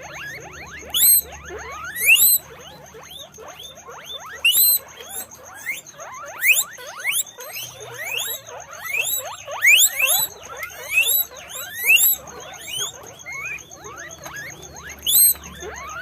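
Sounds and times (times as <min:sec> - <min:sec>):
guinea pigs wheeking: 0:00.0 - 0:16.0.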